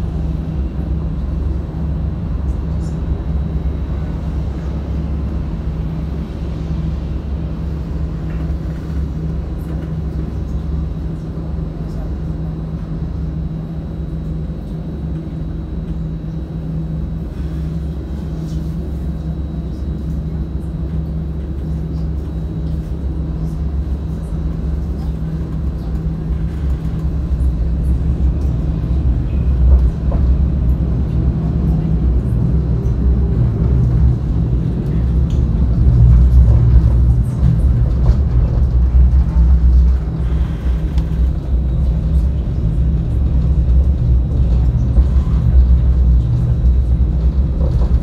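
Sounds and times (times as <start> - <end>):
low hum: 0.0 - 48.0
tram rumbling on track: 0.0 - 48.0.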